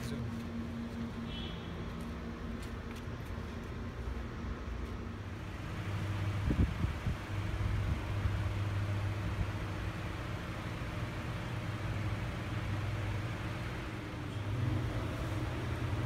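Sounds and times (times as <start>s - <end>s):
air conditioner hum: 0.0s - 16.0s.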